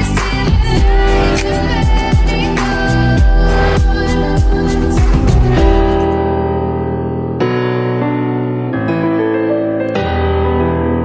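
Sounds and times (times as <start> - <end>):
piano chords: 0.0 - 11.0.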